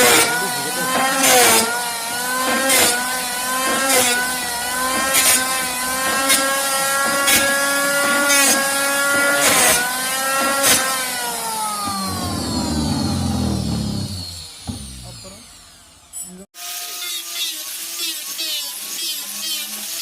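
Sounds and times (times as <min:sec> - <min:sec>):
angle grinder motor whine: 0:00.0 - 0:19.8
grinder scraping: 0:00.0 - 0:20.0.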